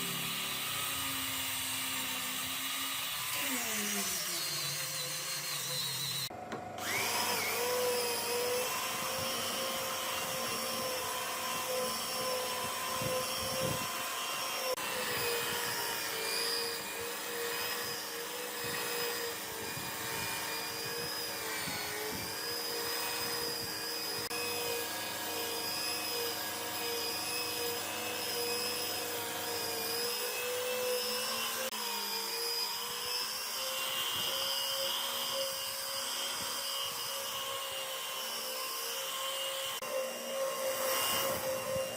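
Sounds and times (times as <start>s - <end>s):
electric power tool motor whine: 0.0s - 41.9s.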